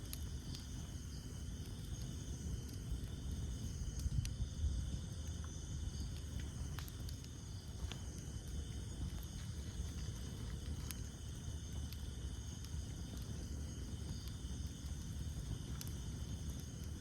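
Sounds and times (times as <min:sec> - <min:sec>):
campfire crackling: 0:00.0 - 0:17.0
insects chirring: 0:00.0 - 0:17.0.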